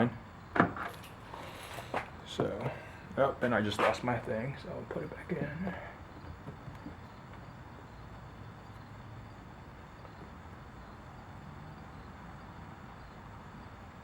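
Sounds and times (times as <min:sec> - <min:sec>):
background rumble and hiss: 0:00.0 - 0:14.0.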